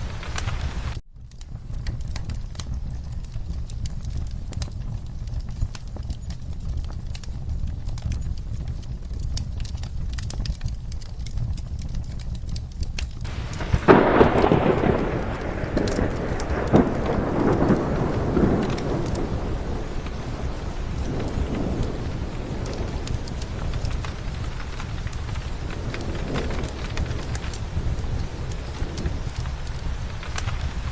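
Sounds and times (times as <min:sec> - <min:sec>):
fire crackling in a fireplace: 0:00.0 - 0:30.9
steady rain: 0:00.0 - 0:30.9
thunderclap rumbling: 0:00.0 - 0:30.9.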